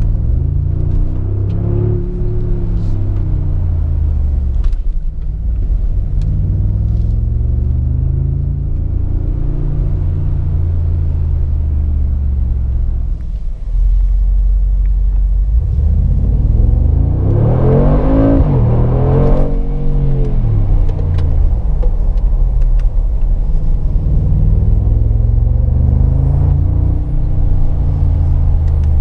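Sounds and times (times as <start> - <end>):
car engine revving: 0.0 - 14.0, 14.6 - 29.0.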